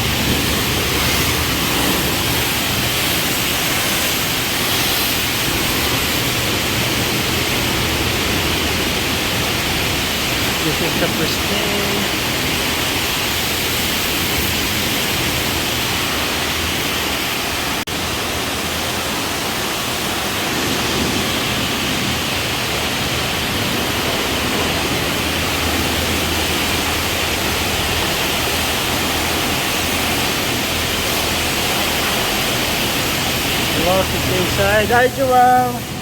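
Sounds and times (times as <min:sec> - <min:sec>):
water jets spraying on car: 0:00.0 - 0:36.0.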